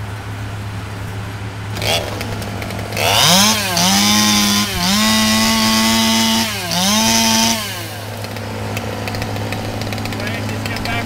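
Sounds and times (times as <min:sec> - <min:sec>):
steady low hum: 0:00.0 - 0:11.0
chainsaw at full throttle: 0:01.7 - 0:11.0.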